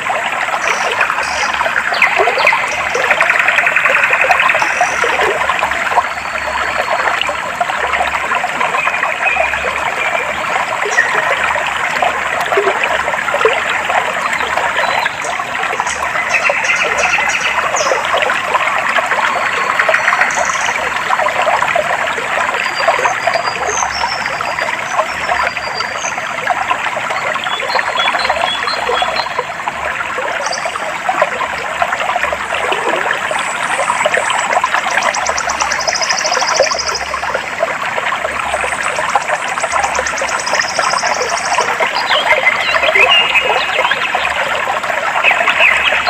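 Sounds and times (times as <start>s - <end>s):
stream trickling and babbling: 0.0s - 46.0s.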